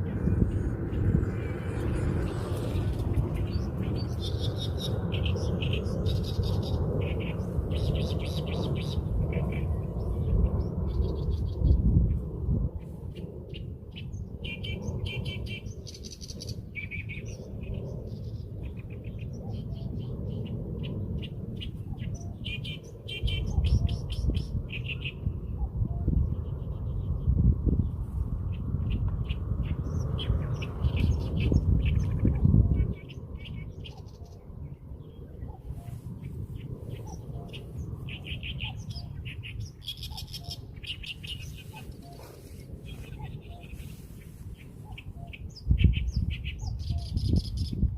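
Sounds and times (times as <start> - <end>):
low rumbling noise: 0.0 - 47.9
small birds chirping: 0.0 - 47.9.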